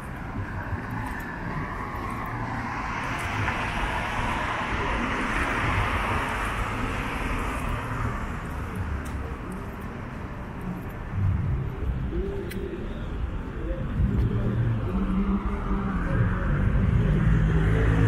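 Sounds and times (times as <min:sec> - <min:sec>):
low rumble of city traffic: 0:00.0 - 0:18.0.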